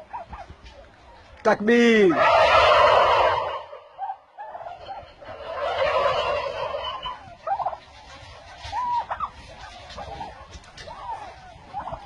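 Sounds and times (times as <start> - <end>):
turkey gobbling: 0.0 - 1.3, 2.0 - 12.0.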